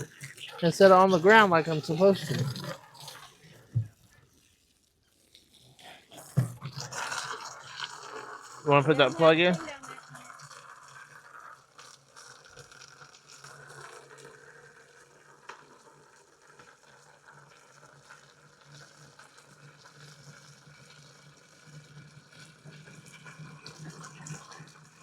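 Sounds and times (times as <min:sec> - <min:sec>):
water running from hose: 0:00.0 - 0:25.0.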